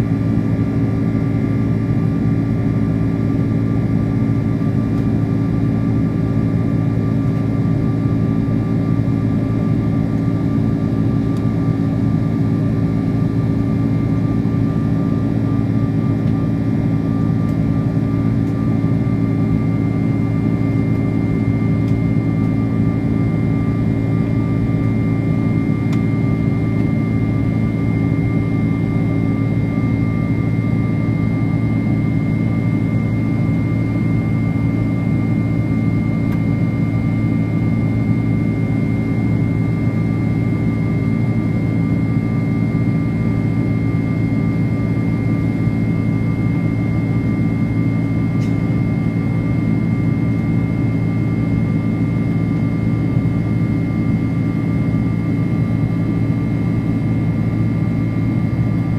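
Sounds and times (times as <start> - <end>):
aircraft cabin low rumble: 0.0 - 58.9.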